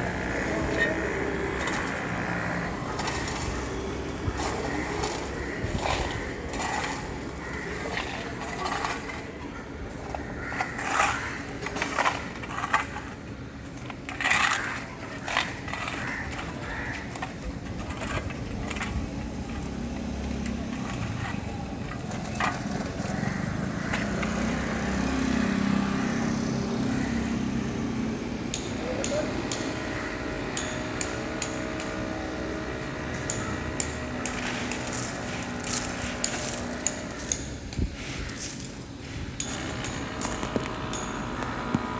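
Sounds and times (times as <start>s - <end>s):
engine hum: 0.0s - 41.9s.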